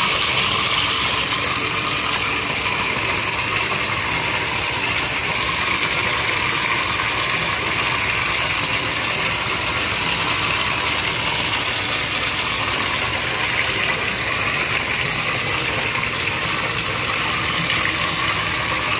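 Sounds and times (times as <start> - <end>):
shower water spraying into bathtub: 0.0 - 18.9.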